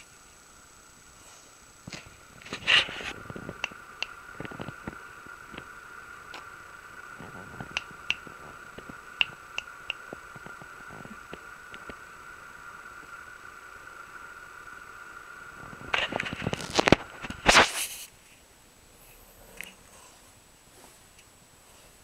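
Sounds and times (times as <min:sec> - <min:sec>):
high-pitched hum: 0:00.0 - 0:20.2.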